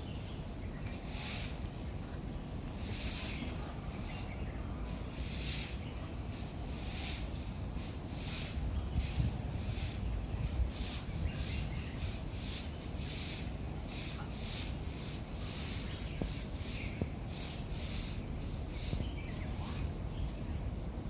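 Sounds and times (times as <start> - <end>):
broom sweeping: 0.9 - 1.8, 2.7 - 20.5.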